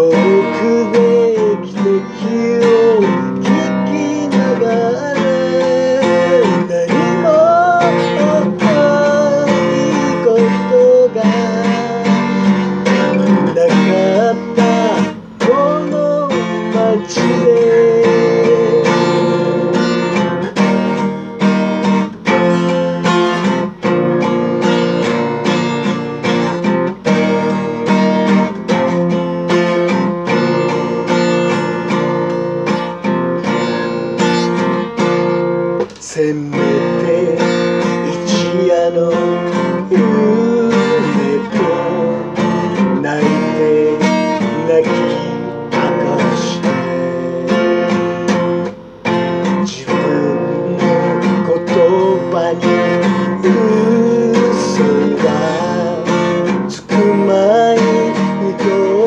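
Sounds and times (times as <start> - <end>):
acoustic guitar strumming: 0.0 - 59.0
man singing: 0.0 - 59.0.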